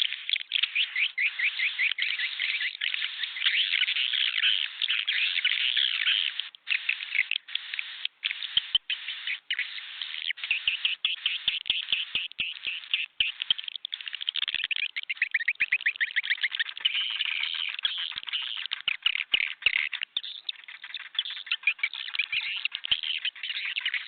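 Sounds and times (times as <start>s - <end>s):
swiftlets twittering: 0.0s - 24.0s
faint clicks: 1.8s - 24.0s.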